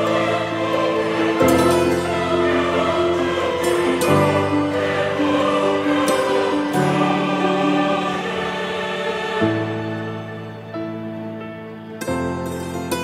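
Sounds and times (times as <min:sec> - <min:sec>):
choir-like voices holding chords: 0:00.0 - 0:13.0.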